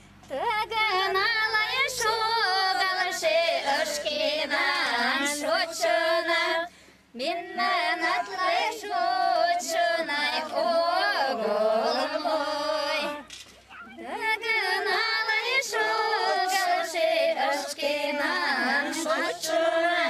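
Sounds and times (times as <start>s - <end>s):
women singing unaccompanied: 0.2s - 20.0s.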